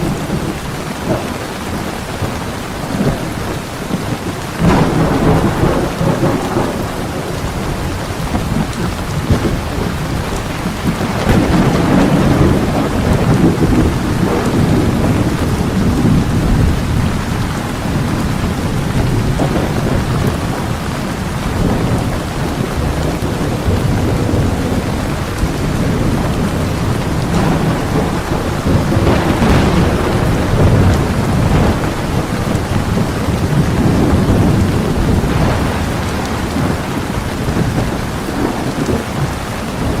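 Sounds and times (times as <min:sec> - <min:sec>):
heavy rain pouring: 0:00.0 - 0:40.0
low thunder rolling: 0:00.0 - 0:40.0.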